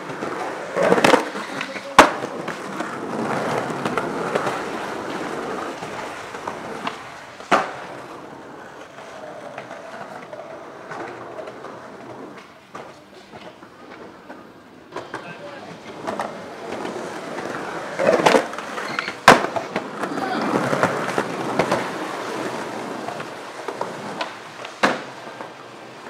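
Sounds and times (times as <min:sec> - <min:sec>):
skateboard clacking on ground: 0:00.0 - 0:26.0
skateboard wheels rolling on pavement: 0:00.0 - 0:26.0.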